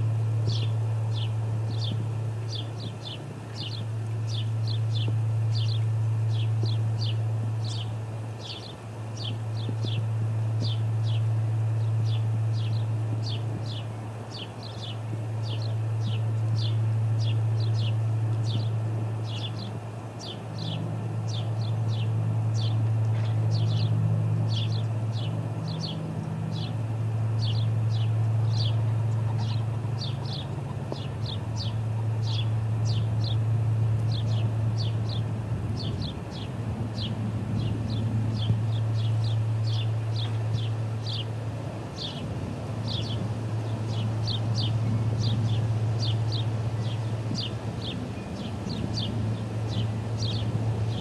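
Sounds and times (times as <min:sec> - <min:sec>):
wind rumble on microphone: 0:00.0 - 0:51.0.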